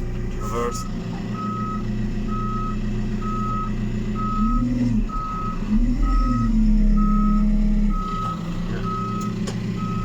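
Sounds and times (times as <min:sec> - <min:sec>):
diesel engine running: 0:00.0 - 0:10.0
reversing alarm beeping: 0:00.4 - 0:10.0.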